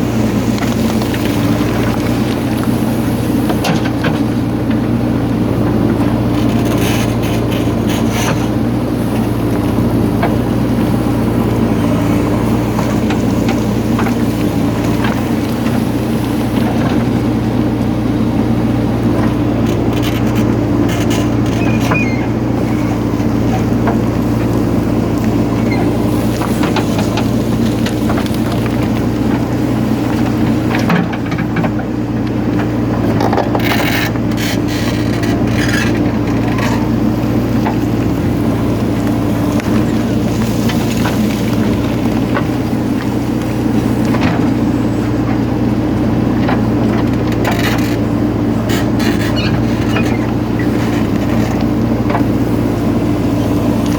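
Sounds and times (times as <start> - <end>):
diesel engine running: 0.0 - 53.9
soil scraping and knocks: 0.0 - 53.9.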